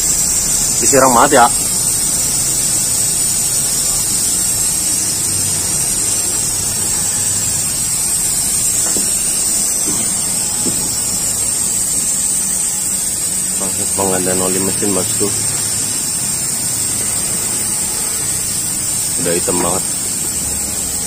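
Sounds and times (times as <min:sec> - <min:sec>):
steady hissing noise: 0:00.0 - 0:21.0.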